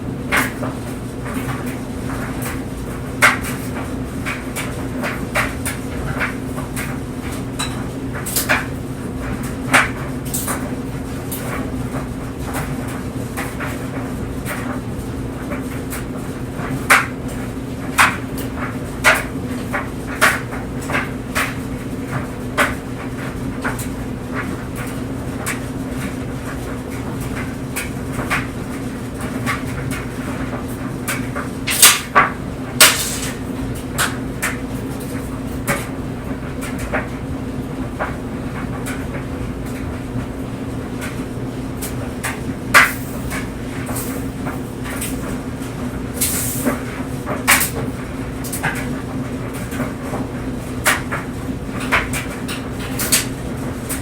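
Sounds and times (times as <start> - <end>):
clothes dryer humming: 0.0 - 54.0
clothes knocking in dryer drum: 0.0 - 54.0.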